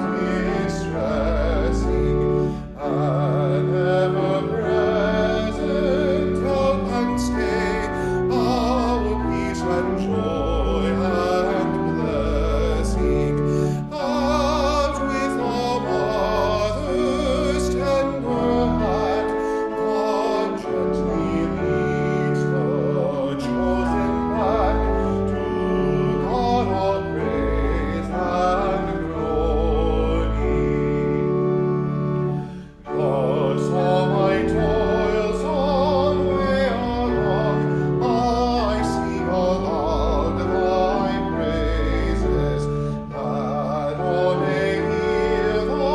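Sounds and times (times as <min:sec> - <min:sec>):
classical-style singing with vibrato: 0:00.0 - 0:45.9
keyboard accompaniment: 0:00.0 - 0:45.9.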